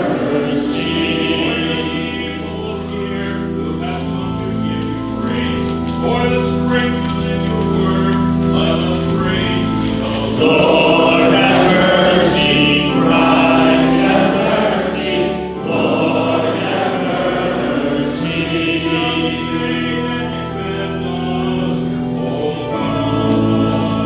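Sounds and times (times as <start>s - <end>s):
congregation singing a hymn: 0.0s - 24.0s
organ chords: 0.0s - 24.0s.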